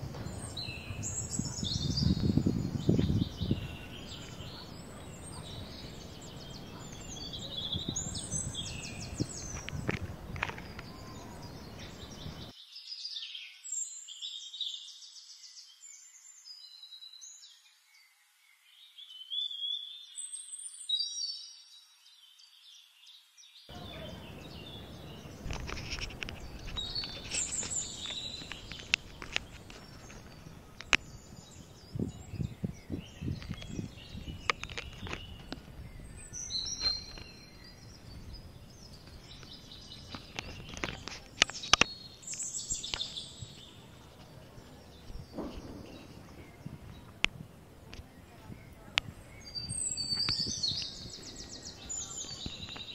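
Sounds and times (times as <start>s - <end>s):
birds chirping and singing: 0.0s - 52.9s.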